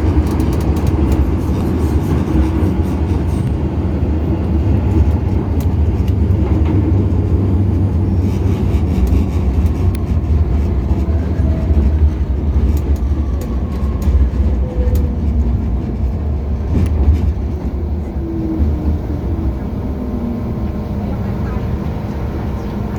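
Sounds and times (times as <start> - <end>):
rail clicks: 0.0 - 22.9
train wheels rumbling on rail: 0.0 - 22.9.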